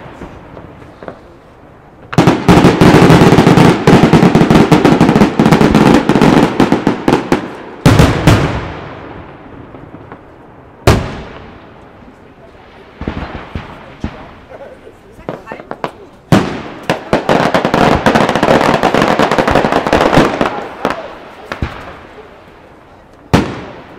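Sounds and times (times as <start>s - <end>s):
fireworks barrage: 0.0s - 23.9s
loud firework bursts echoing: 0.0s - 23.9s.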